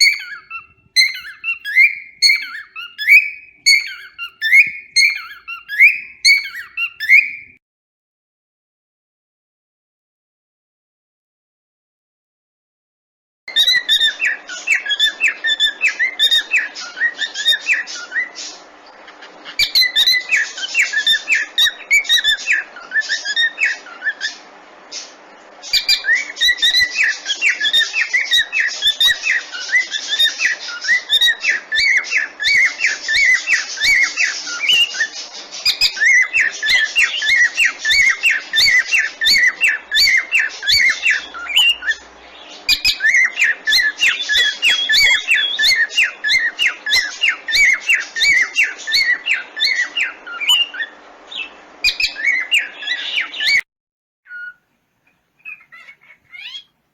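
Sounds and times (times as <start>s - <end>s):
cockatiel chirping: 0.0s - 7.6s, 13.5s - 18.6s, 19.2s - 53.6s, 54.3s - 54.6s, 55.4s - 56.8s.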